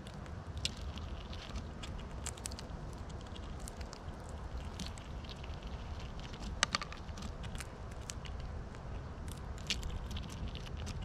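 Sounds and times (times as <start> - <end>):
squirrels scrabbling and clicking: 0.0 - 11.0
steady low rumble: 0.0 - 11.0.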